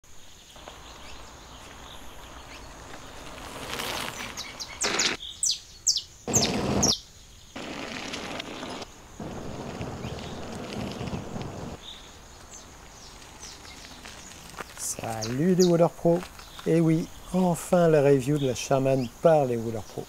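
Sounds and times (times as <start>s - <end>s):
birds chirping: 0.1s - 20.0s.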